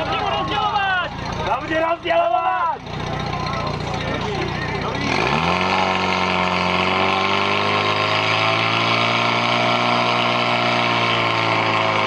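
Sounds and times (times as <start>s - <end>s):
pump engine running at full throttle: 0.0s - 12.0s.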